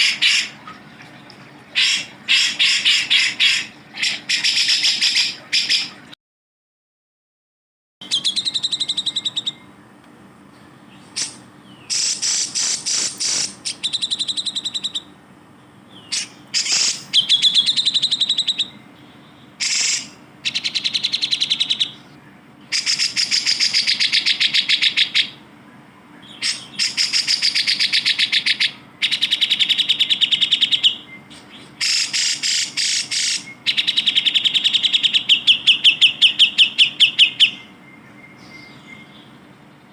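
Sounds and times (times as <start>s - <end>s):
bird singing rapid trills: 1.7s - 6.1s, 8.0s - 10.0s, 10.6s - 39.9s.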